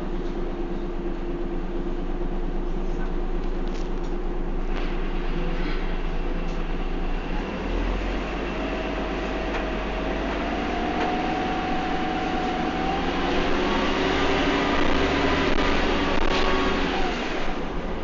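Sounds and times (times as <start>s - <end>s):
bus engine and transmission whine: 0.0s - 18.0s.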